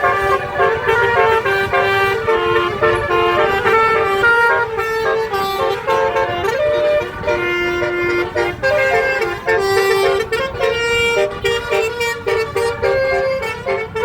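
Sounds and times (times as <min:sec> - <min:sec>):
bus horn playing a melody: 0:00.0 - 0:14.0
steady low rumble: 0:00.0 - 0:14.0.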